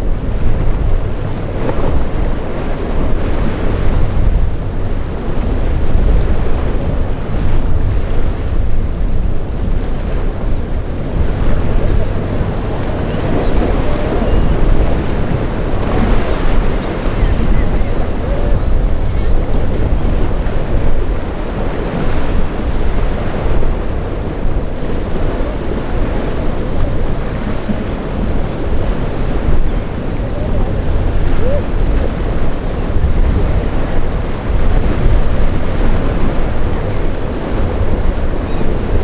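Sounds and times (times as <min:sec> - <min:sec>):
boat wake churning: 0:00.0 - 0:39.0
breaking surf: 0:00.0 - 0:39.0
wind buffeting the microphone: 0:00.0 - 0:39.0.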